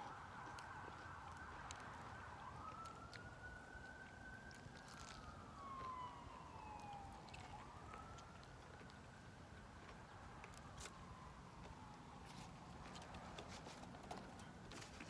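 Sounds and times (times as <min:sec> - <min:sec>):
emergency vehicle siren wailing: 0:00.0 - 0:15.0.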